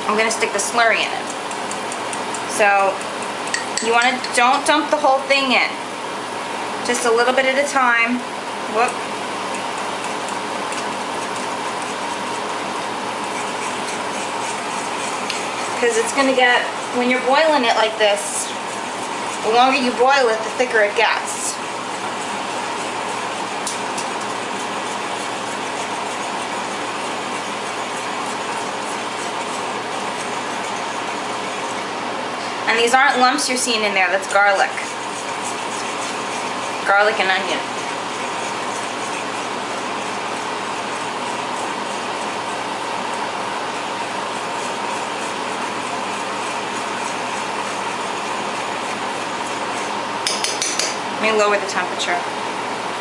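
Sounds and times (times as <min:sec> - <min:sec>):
sauce boiling in a pan: 0:00.3 - 0:05.1, 0:08.3 - 0:51.1.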